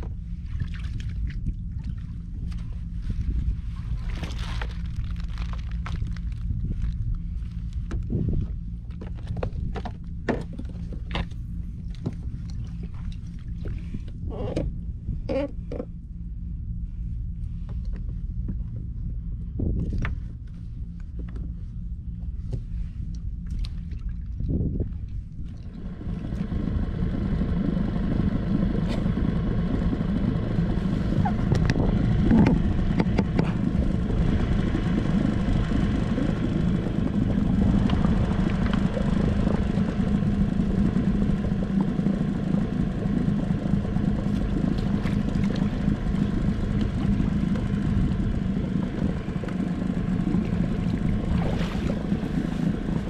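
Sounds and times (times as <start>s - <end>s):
water noise: 0.0s - 18.5s, 19.1s - 53.0s
outboard motor running: 0.0s - 53.0s
wind: 0.0s - 53.0s.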